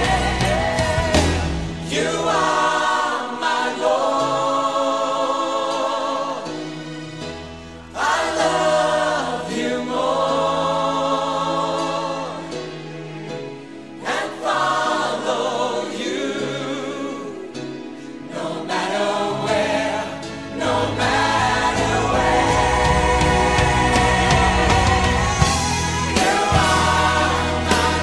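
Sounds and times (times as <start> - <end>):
choir singing over a band: 0.0 - 6.9, 7.9 - 12.8, 14.0 - 28.0.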